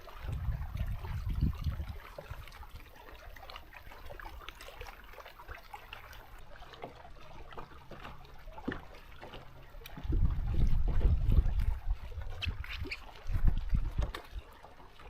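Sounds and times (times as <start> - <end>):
small splashes and drips: 0.0 - 15.0
water lapping against boat hull: 0.0 - 15.0.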